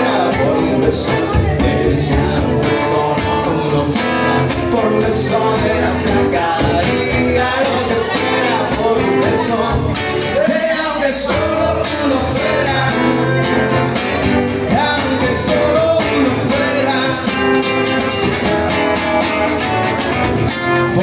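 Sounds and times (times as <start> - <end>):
acoustic guitar strumming: 0.0 - 21.0
man singing: 0.0 - 21.0.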